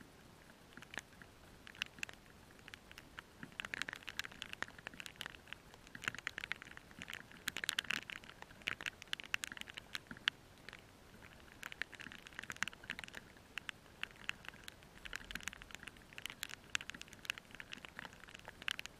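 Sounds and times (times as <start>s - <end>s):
rain drops pattering: 0.0s - 18.9s.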